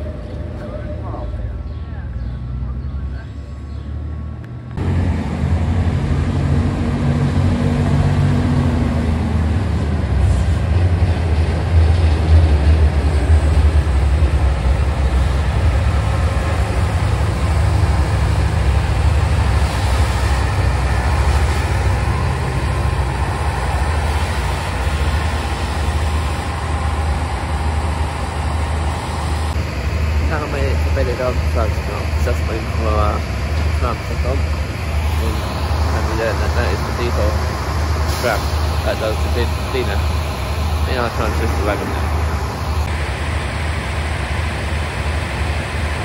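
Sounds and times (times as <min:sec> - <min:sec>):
tram running rumble: 0:00.0 - 0:46.0.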